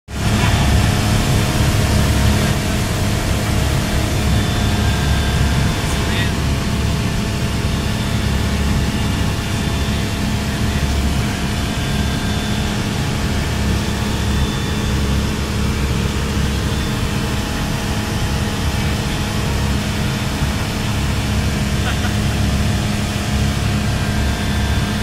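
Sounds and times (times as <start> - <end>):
propeller airplane engine droning: 0.1 - 25.0.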